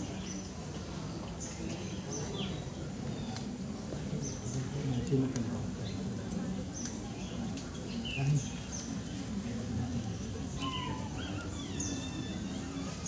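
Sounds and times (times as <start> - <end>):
murmur of people: 0.0 - 13.0
small birds chirping: 0.0 - 13.0.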